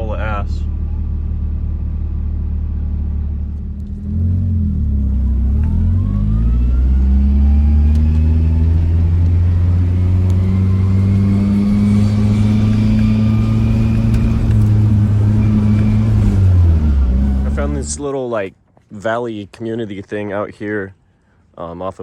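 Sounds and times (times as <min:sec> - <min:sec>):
car engine revving under throttle: 0:00.0 - 0:18.0.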